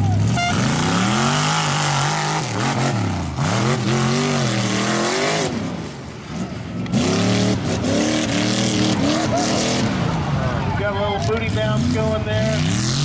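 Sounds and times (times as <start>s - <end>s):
buggy engine revving hard: 0.0s - 10.6s, 11.2s - 13.0s.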